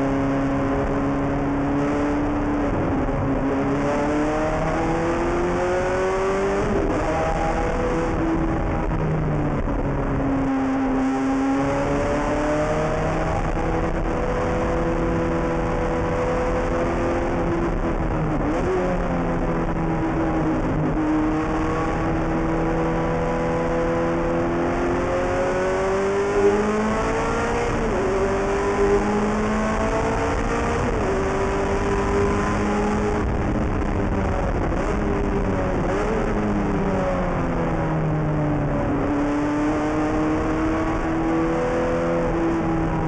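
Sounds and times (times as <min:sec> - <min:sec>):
race car engine revving: 0:00.0 - 0:43.0.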